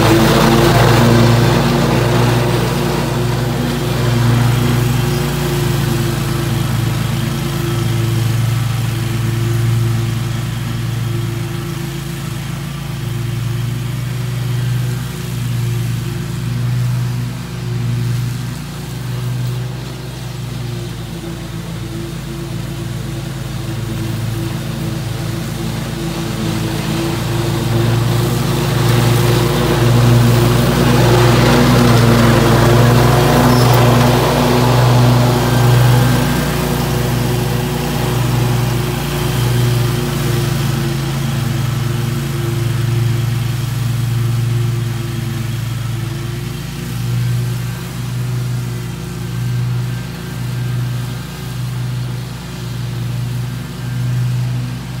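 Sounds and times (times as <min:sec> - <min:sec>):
blades cutting grass: 0:00.0 - 0:55.0
mower engine hum: 0:00.0 - 0:55.0.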